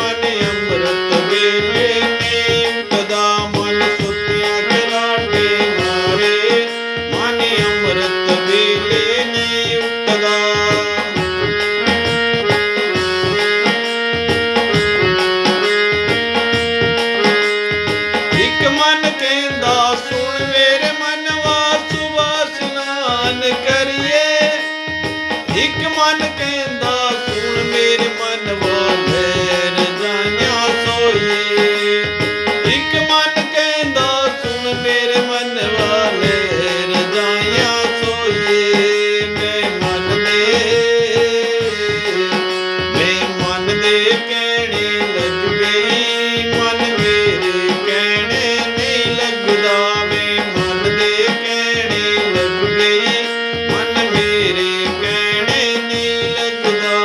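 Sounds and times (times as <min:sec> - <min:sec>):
held shifting melody line: 0:00.0 - 0:57.0
tabla rhythm: 0:00.0 - 0:57.0.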